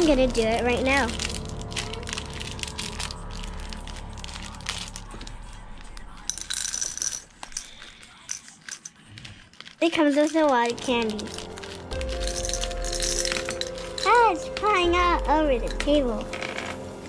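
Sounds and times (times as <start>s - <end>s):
hard candies rattling into plastic: 0.0s - 14.8s
plastic bag crinkling: 0.0s - 14.8s.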